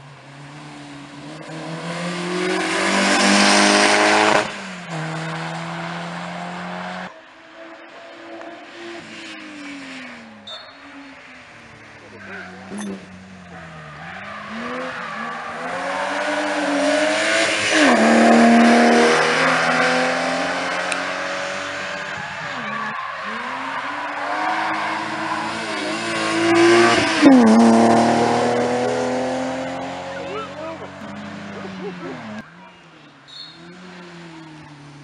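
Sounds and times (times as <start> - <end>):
rally car engines passing: 0.0 - 35.0.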